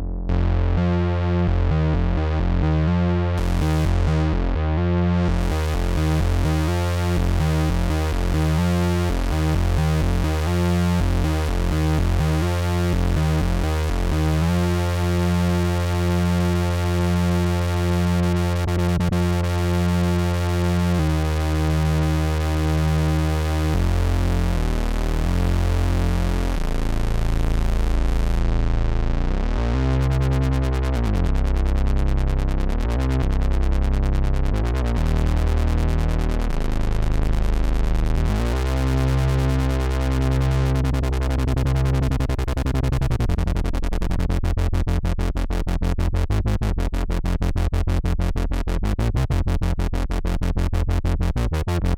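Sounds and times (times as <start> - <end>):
synthesizer bass line: 0.0 - 51.9.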